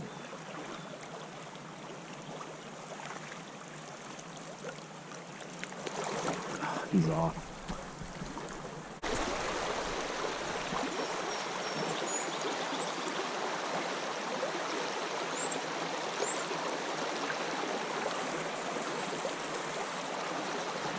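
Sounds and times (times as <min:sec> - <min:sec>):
creek water flowing: 0:00.0 - 0:20.9.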